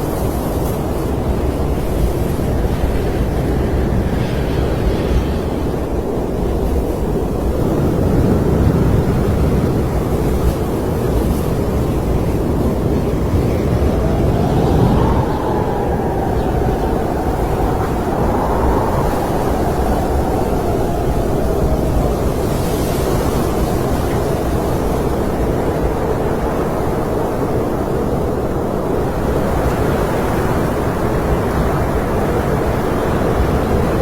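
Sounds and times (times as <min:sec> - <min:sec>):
faint wind howl: 0:00.0 - 0:34.0
wind low roar: 0:00.0 - 0:34.0.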